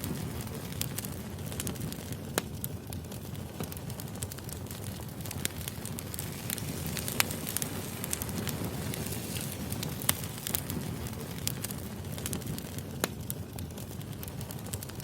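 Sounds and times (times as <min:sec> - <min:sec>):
firewood crackling and popping: 0:00.0 - 0:15.0
flames rumbling: 0:00.0 - 0:15.0.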